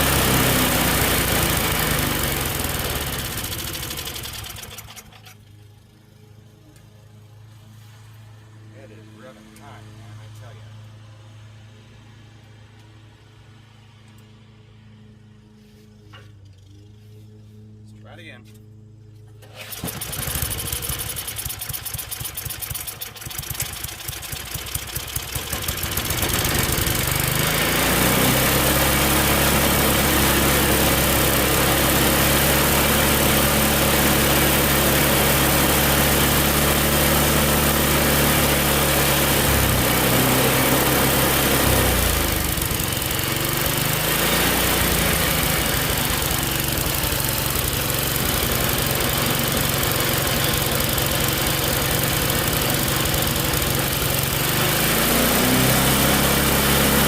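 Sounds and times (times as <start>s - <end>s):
snowblower engine starting and running: 0.0s - 57.0s.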